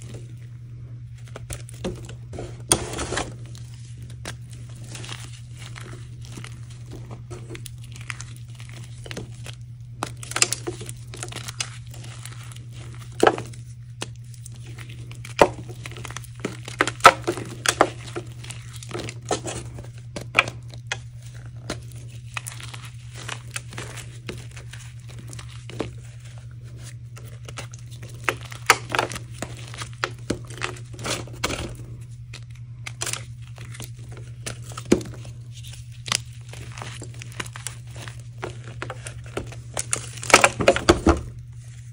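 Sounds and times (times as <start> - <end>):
dry powder blocks crunching: 0.0 - 41.9
steady low hum: 0.0 - 41.9.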